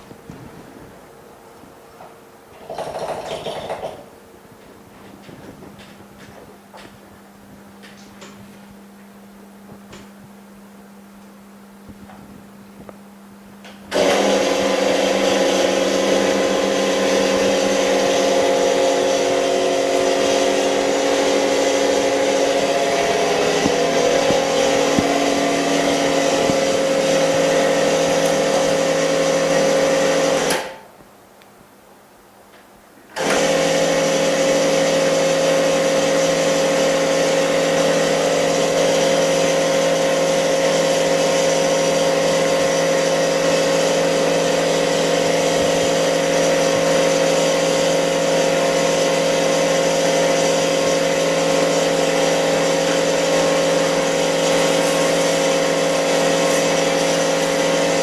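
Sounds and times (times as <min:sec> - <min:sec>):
electric machine hum: 0:00.0 - 0:31.0, 0:33.1 - 0:58.0.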